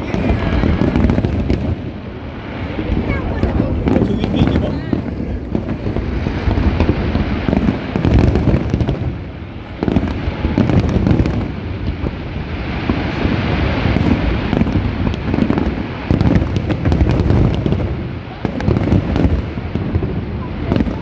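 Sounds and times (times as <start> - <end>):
firework booms: 0.0 - 21.0
firework crackling pops: 0.0 - 21.0.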